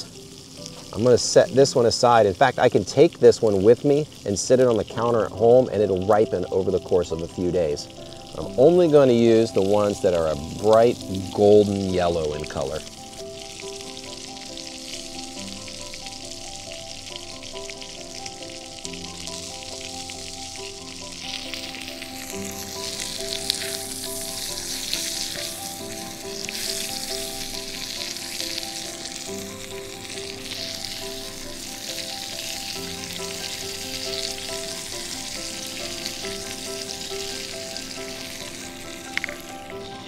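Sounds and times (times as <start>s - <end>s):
steak sizzling in skillet: 0.0s - 40.0s.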